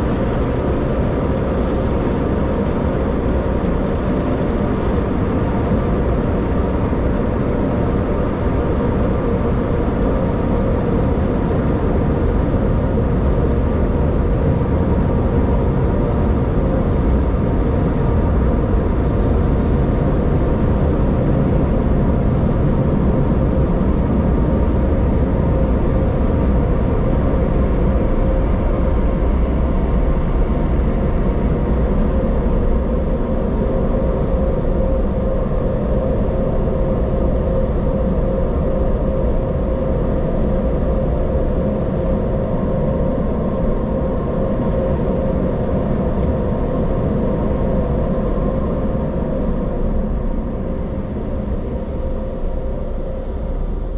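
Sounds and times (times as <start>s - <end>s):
machine running with constant hum: 0.0s - 53.9s.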